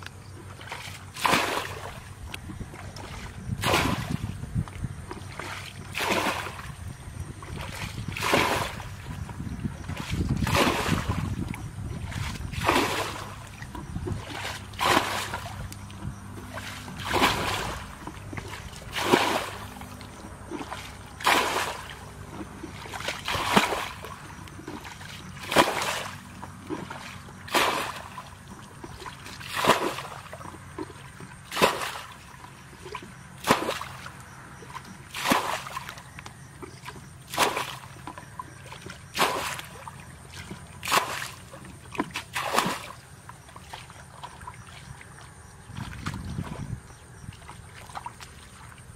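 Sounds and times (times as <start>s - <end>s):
water splashing: 0.0s - 48.9s.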